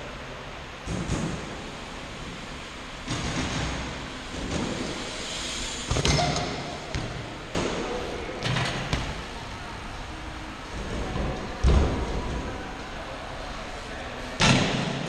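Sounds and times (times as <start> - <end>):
bike tyres rolling on ramps: 0.0 - 15.0.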